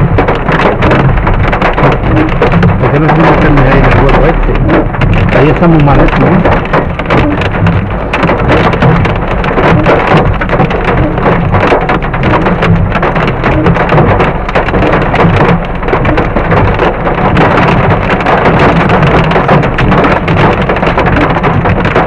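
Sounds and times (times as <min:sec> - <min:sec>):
hail and rain on car roof: 0:00.0 - 0:22.0.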